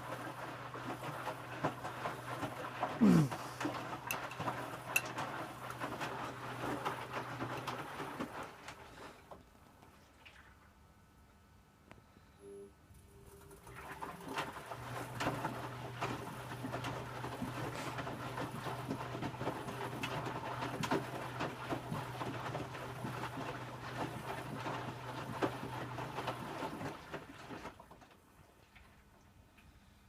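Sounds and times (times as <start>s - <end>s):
laundry tumbling and sloshing: 0.0s - 10.6s, 13.5s - 29.4s
washing machine motor hum: 0.0s - 10.7s, 12.4s - 29.4s.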